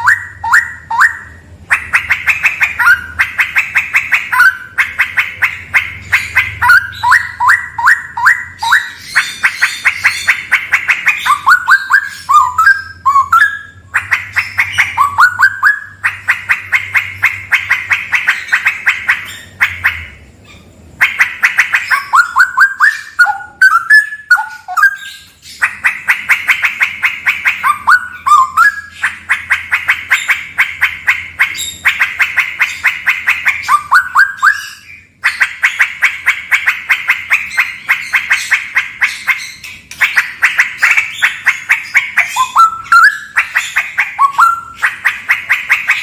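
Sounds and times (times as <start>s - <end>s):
bird singing loudly: 0.0s - 46.0s.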